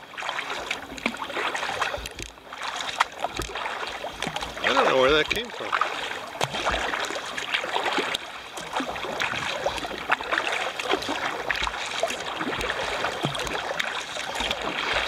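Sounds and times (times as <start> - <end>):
water slapping against kayak hull: 0.0 - 15.0.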